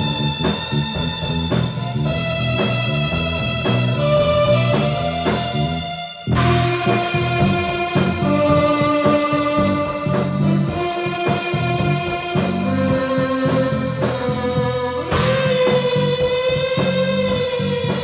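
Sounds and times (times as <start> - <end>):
bass: 0.0 - 18.0
drums: 0.0 - 18.0
electric guitar sustained notes: 0.0 - 18.0.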